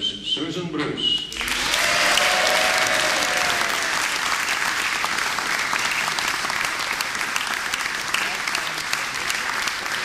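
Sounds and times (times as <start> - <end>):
audience applauding: 1.3 - 10.0.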